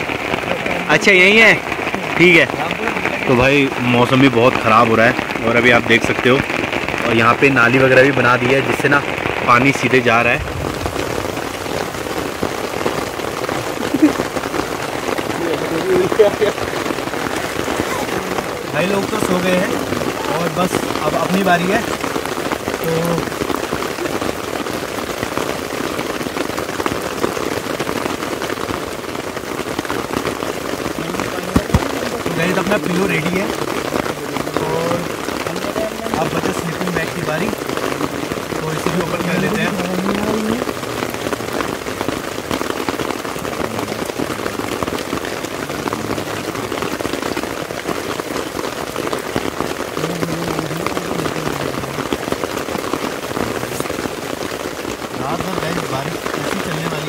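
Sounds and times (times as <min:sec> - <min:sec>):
heavy rain on tent fabric: 0:00.0 - 0:57.0.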